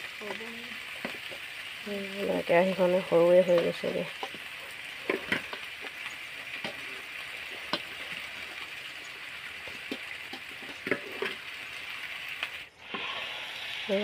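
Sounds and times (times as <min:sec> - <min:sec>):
oil frying sizzle: 0:00.0 - 0:14.0.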